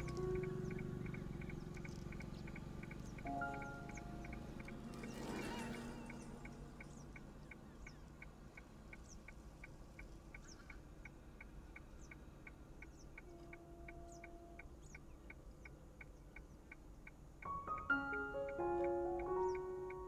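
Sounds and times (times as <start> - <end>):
short high bird ticks: 0.0 - 20.0.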